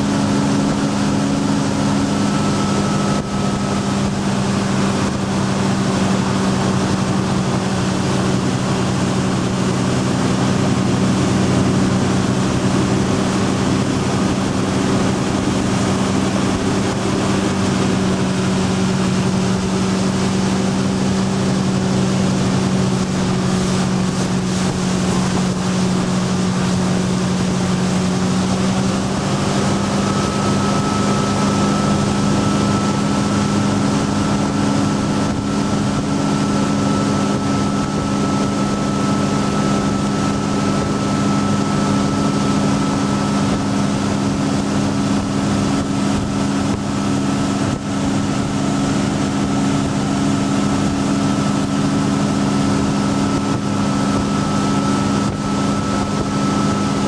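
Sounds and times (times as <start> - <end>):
boat engine running: 0.0 - 57.0
thin high whine: 0.0 - 57.0
water rushing: 0.0 - 57.0
wind: 0.0 - 57.0.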